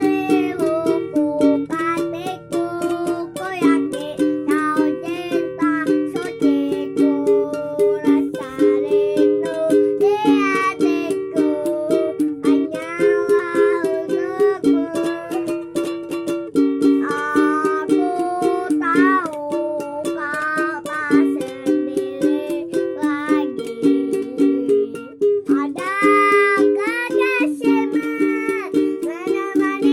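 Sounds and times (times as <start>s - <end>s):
child singing: 0.0s - 15.9s, 17.0s - 29.9s
strummed stringed instrument: 0.0s - 29.9s.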